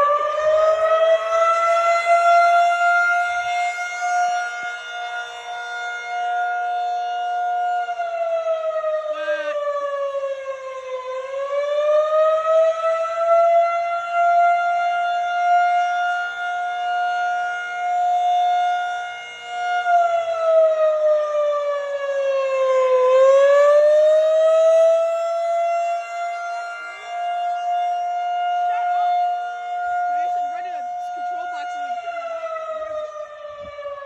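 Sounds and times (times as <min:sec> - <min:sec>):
outdoor warning siren wailing: 0:00.0 - 0:34.0.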